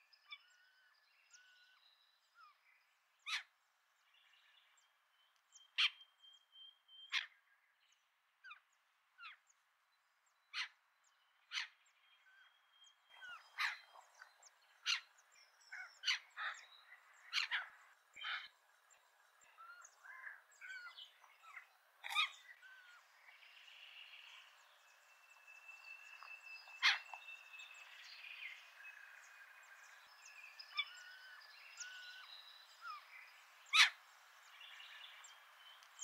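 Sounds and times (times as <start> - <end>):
birds chirping and warbling: 0.0 - 9.6, 10.2 - 36.0.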